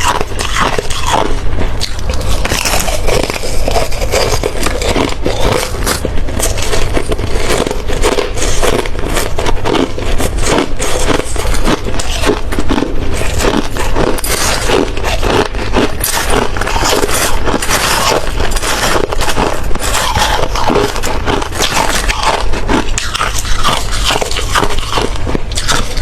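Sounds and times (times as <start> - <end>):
chewing crunching ice: 0.0 - 26.0.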